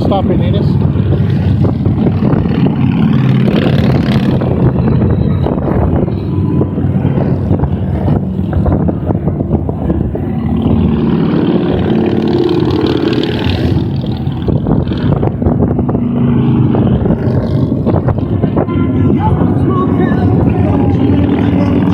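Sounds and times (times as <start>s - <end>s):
motorcycles riding past: 0.0s - 21.9s.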